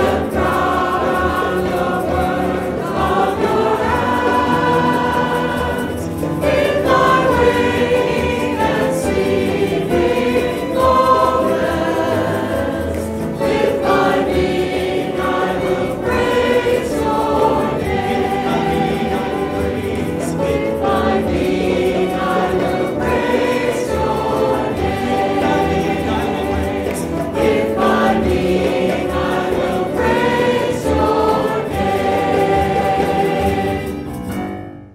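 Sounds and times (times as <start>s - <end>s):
choir singing a hymn: 0.0s - 34.4s
instrumental accompaniment: 0.0s - 34.9s.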